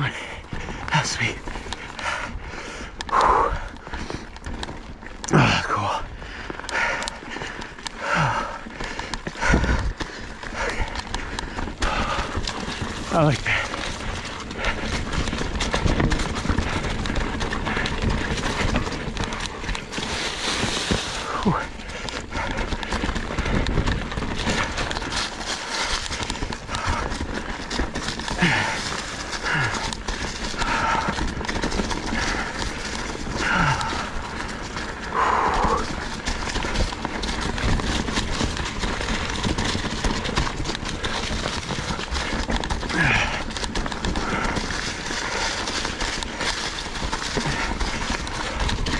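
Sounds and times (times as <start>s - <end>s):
bike tyres and frame rattling on rocks: 0.1s - 48.9s.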